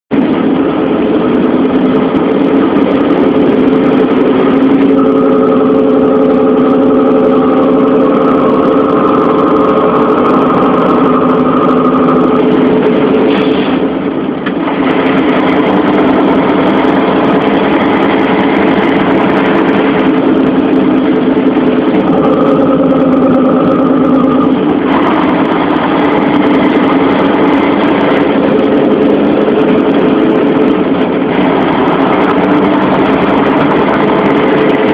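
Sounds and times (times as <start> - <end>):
heavy vehicle engine running: 0.0 - 34.9.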